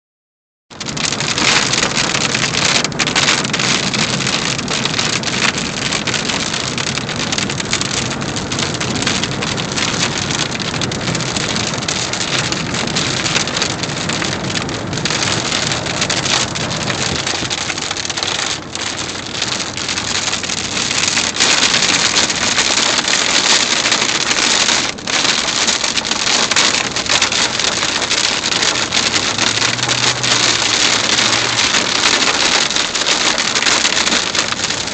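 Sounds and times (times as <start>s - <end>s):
heavy rain pelting down: 0.7s - 34.9s.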